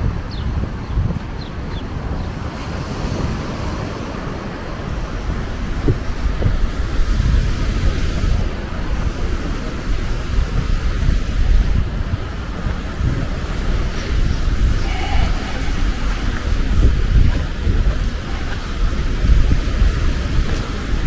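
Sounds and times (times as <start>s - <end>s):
surf on a sandy beach: 0.0s - 21.0s
wind buffeting microphone: 0.0s - 21.0s.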